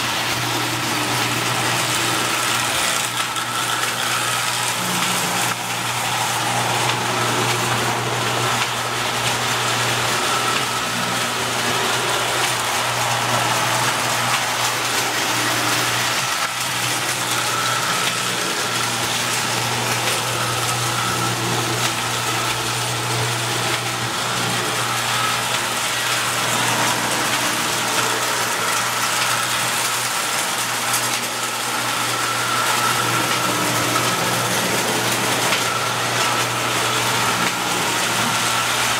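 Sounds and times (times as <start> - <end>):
toy train motor hum: 0.0 - 38.9.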